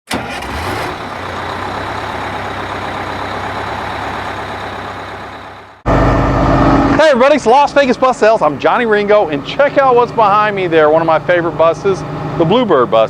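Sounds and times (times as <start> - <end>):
heavy vehicle engine running: 0.1 - 13.0.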